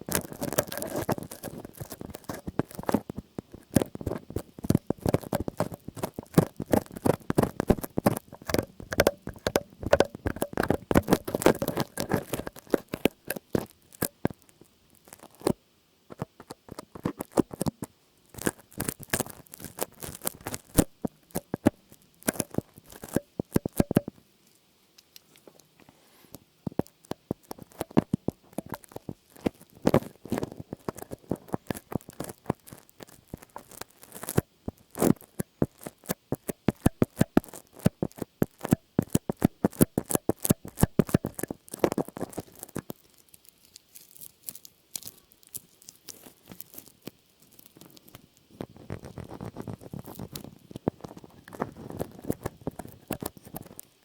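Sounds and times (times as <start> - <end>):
crackling tapping and scratching: 0.0 - 54.0.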